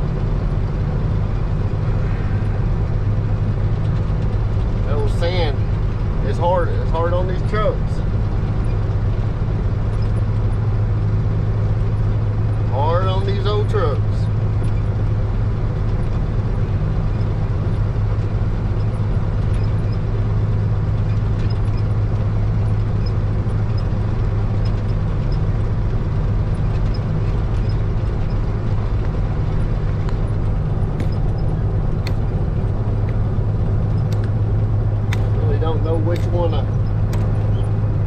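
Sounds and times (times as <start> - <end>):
truck diesel engine droning: 0.0 - 38.0.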